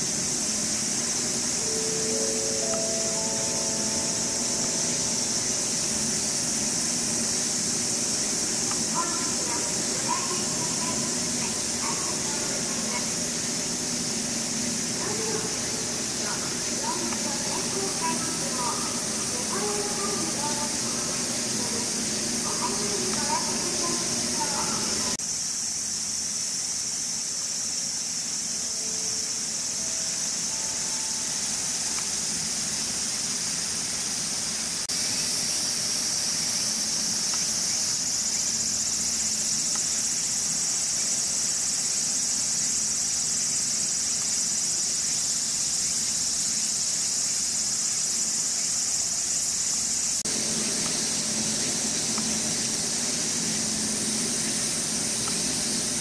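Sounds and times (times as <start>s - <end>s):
insects shrilling: 0.0s - 56.0s.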